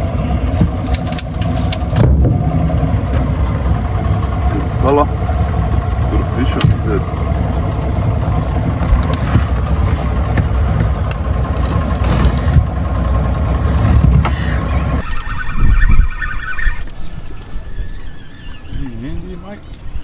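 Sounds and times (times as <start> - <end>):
boat motor rumbling: 0.0 - 20.0.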